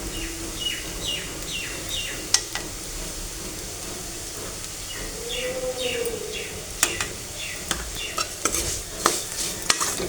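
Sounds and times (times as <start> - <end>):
spices sizzling in a pan: 0.0 - 10.0.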